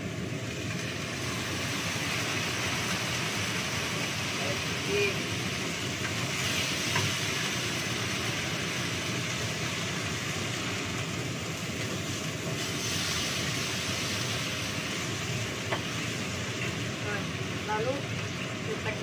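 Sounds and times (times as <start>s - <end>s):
range hood fan humming: 0.0s - 19.0s.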